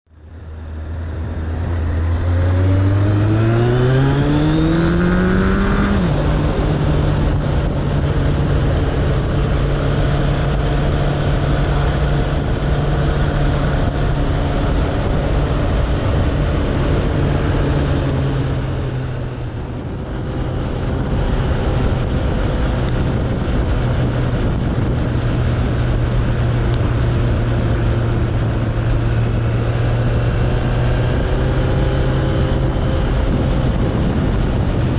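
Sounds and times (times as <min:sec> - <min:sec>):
constant rushing noise: 0:00.1 - 0:34.9
motorcycle engine accelerating: 0:00.1 - 0:34.9.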